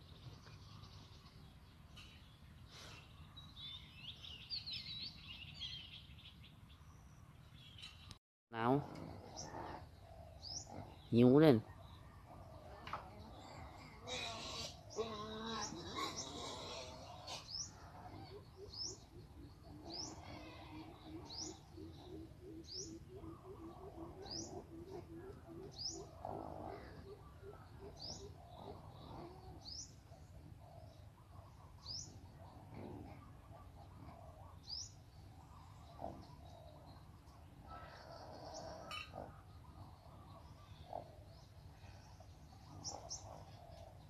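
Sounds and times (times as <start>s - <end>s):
songbird chirping: 0.0s - 44.0s.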